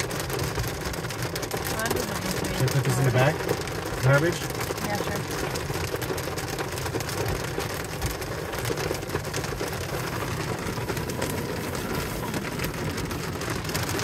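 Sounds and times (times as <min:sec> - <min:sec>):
rain on car roof: 0:00.0 - 0:14.0.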